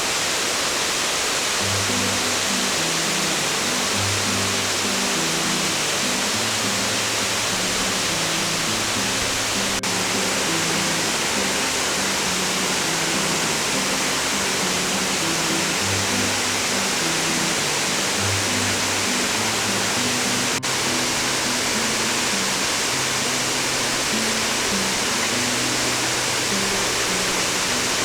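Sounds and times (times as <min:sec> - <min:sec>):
waterfall roaring: 0:00.0 - 0:28.0
soft background music: 0:01.6 - 0:28.0.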